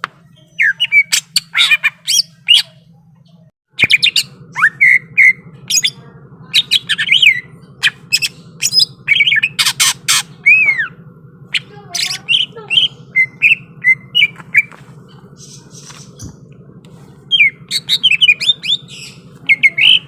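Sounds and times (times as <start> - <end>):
faint low hum: 0.0 - 20.0
bird singing fast song: 0.2 - 20.0.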